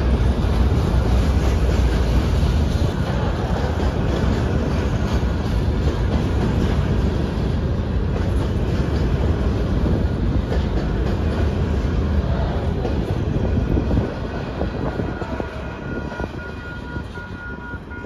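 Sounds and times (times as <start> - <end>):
steel wheels rumbling on rails: 0.0 - 18.0.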